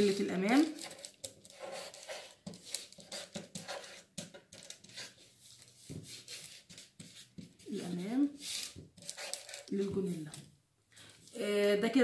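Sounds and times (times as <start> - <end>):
marker scratching on paper: 0.0 - 10.4.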